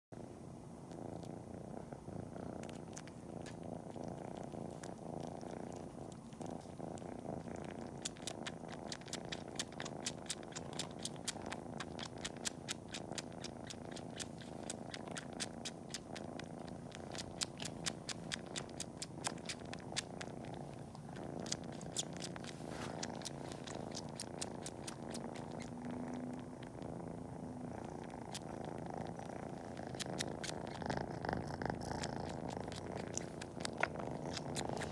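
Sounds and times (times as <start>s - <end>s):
kitten purring: 0.2s - 34.9s
clicking suckling sounds: 2.6s - 26.8s, 27.8s - 34.9s.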